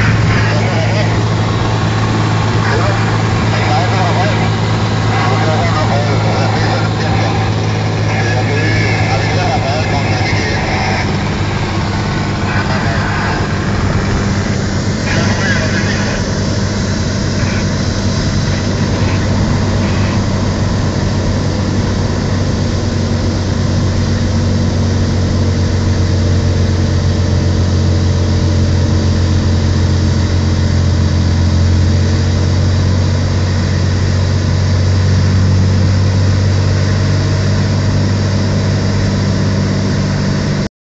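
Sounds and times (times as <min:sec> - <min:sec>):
airplane engine and propeller droning: 0:00.0 - 0:40.7.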